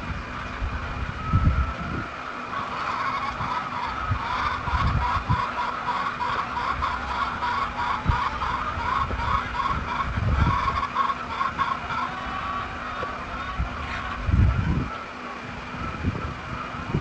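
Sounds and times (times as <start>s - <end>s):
wind rumble on microphone: 0.0s - 2.3s, 3.1s - 5.6s, 6.2s - 17.0s
chickens calling: 0.0s - 17.0s.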